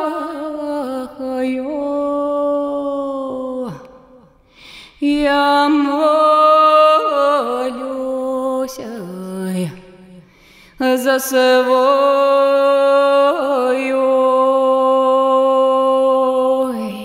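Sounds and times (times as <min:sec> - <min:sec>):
woman singing unaccompanied: 0:00.0 - 0:04.2, 0:05.0 - 0:10.2, 0:10.8 - 0:17.0.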